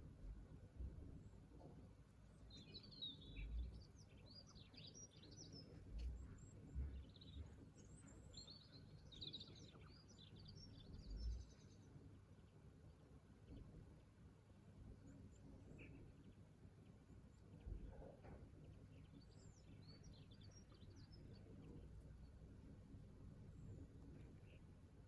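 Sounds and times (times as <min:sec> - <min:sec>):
songbird chirping: 0:00.1 - 0:25.0.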